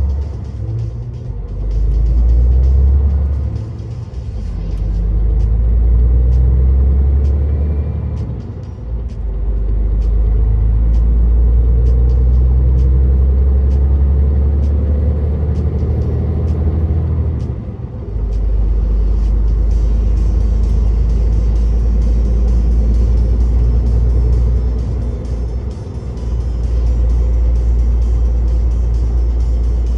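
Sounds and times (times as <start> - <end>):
truck diesel engine droning: 0.0 - 29.9
tyre and road noise: 0.0 - 29.9.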